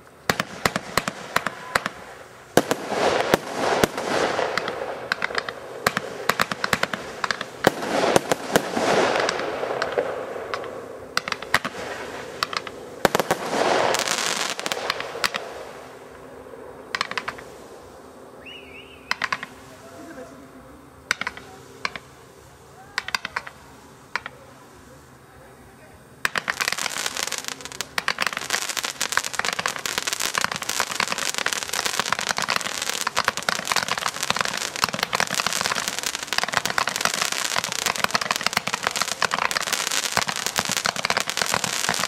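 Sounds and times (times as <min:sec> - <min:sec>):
fireworks bangs and crackling: 0:00.0 - 0:42.0
fireworks hissing: 0:00.0 - 0:42.0.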